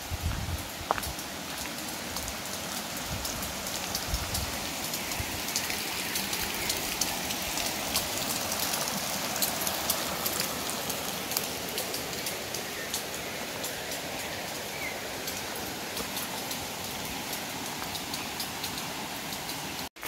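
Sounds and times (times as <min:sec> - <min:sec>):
creek running over stones: 0:00.0 - 0:20.0.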